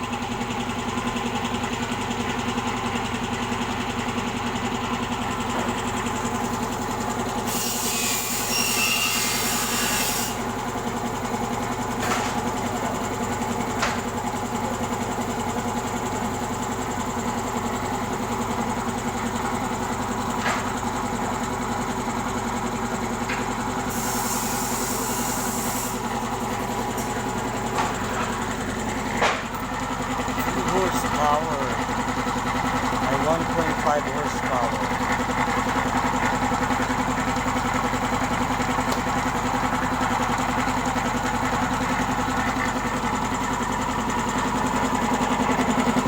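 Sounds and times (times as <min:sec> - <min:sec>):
air compressor motor humming: 0:00.0 - 0:46.0.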